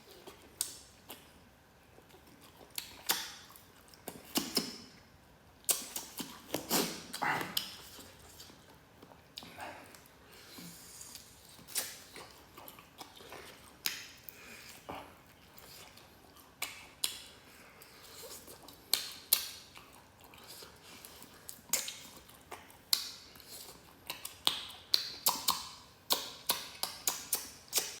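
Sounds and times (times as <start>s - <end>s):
close-miked biting and chewing: 0.0s - 5.0s, 5.6s - 28.0s.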